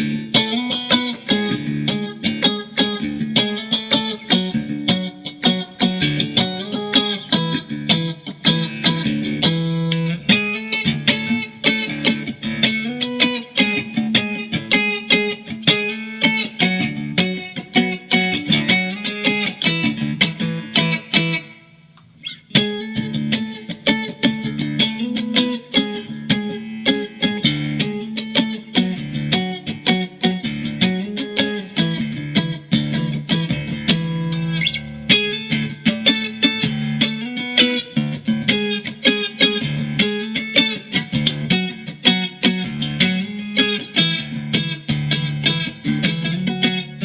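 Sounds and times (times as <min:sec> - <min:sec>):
electric guitar riffs: 0:00.0 - 0:47.0.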